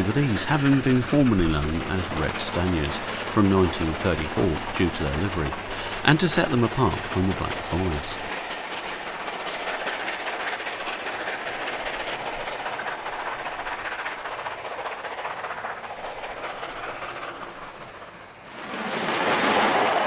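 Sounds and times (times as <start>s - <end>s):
steam locomotive running: 0.0s - 20.0s.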